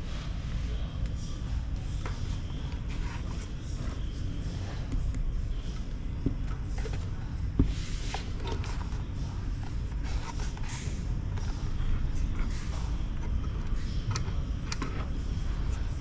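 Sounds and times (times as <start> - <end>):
steady low rumble: 0.0 - 16.0
handling knocks and rubbing: 1.1 - 16.0.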